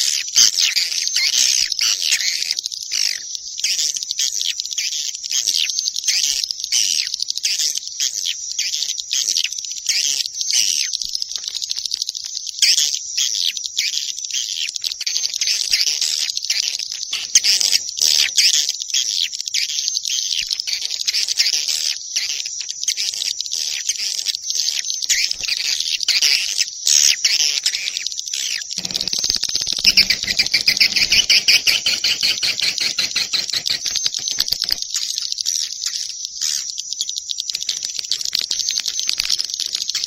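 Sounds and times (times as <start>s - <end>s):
high-pitched bird twittering: 0.0s - 40.0s.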